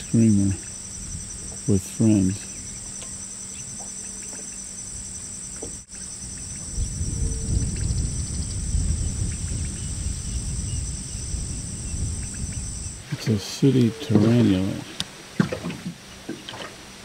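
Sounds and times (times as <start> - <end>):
low rumbling noise: 0.0 - 16.2
insects trilling: 0.0 - 17.0.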